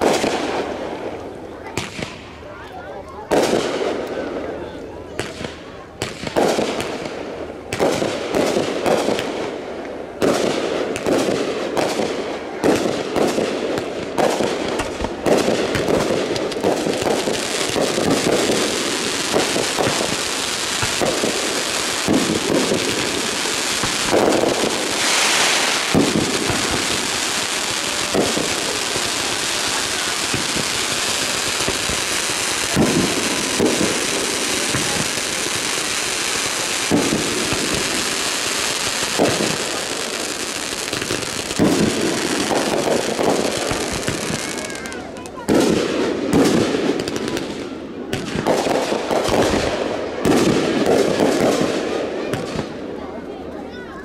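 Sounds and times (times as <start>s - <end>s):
fireworks bangs: 0.0s - 53.9s
fireworks crackling: 0.0s - 54.0s.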